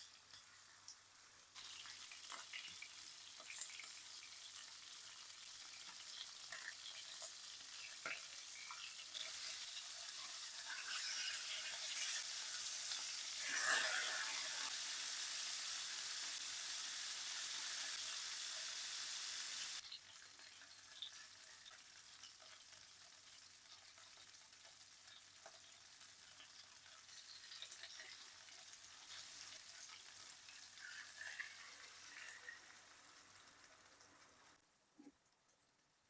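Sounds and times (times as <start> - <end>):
chicken sizzling in a pan: 0.0 - 35.0.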